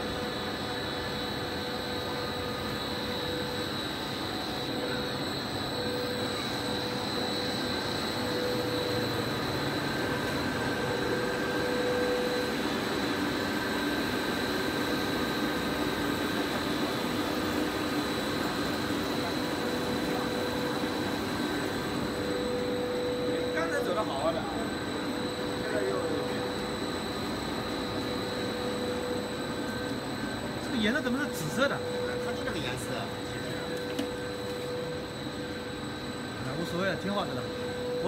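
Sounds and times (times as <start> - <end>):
low machine hum: 0.0 - 38.0
machine motor high whine: 0.0 - 38.0.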